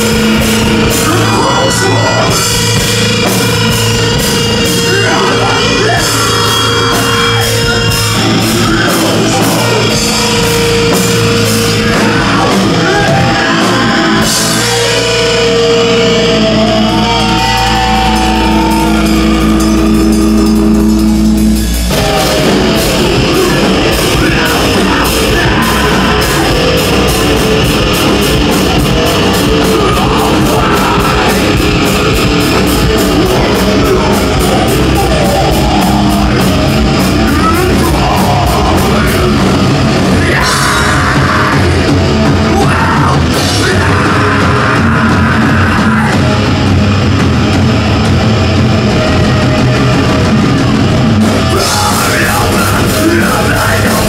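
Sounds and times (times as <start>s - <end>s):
person singing: 0.0s - 21.0s, 21.6s - 46.6s, 51.2s - 54.0s
fast drumming: 0.0s - 54.0s
live rock band: 0.0s - 54.0s.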